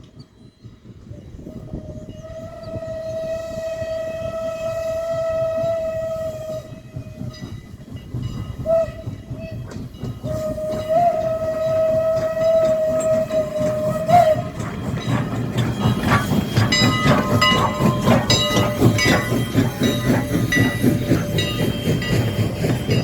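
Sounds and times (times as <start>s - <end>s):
passing train rumble: 0.0s - 23.0s
steam locomotive whistle: 1.1s - 7.4s, 8.6s - 23.0s.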